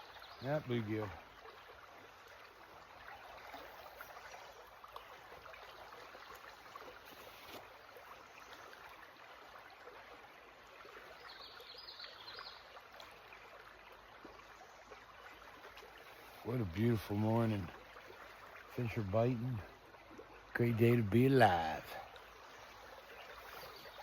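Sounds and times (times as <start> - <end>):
creek water trickling: 0.0 - 24.0.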